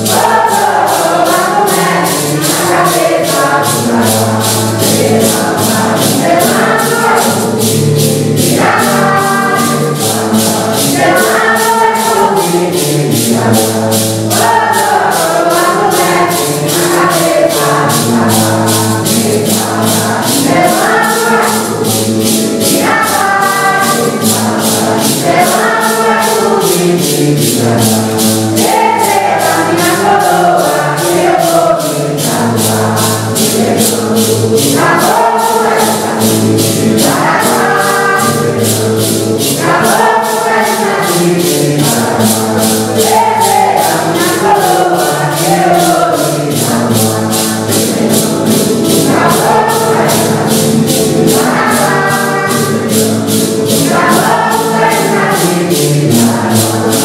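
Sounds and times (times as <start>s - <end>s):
congregation singing a hymn: 0.0s - 57.0s
maracas shaking: 0.0s - 57.0s.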